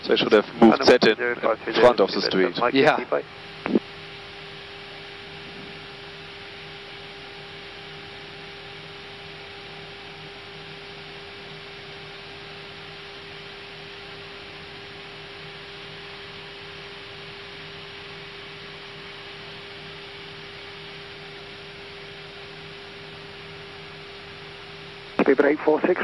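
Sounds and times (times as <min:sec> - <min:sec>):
constant electrical hum: 0:00.0 - 0:26.0.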